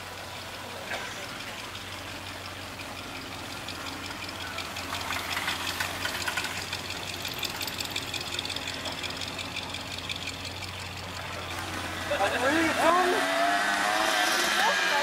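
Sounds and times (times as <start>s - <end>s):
pickup truck engine idling: 0.0s - 13.3s.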